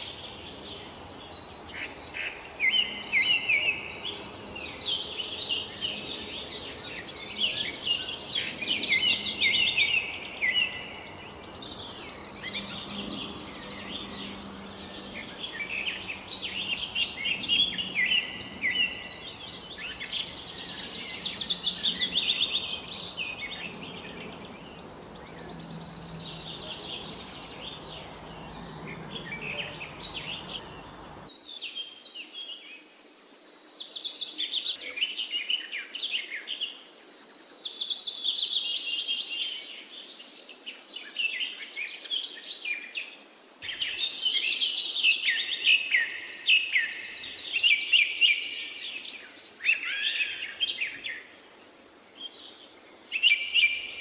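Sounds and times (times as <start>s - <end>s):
low background hiss: 0.0s - 54.0s
songbirds singing: 0.0s - 54.0s.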